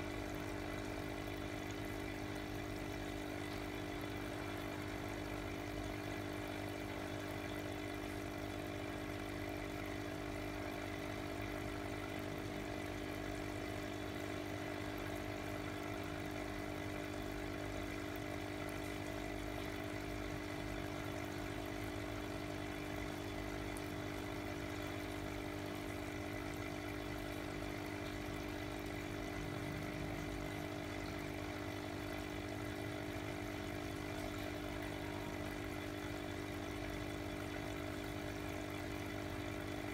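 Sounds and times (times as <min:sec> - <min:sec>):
aquarium air pump humming: 0:00.0 - 0:39.9.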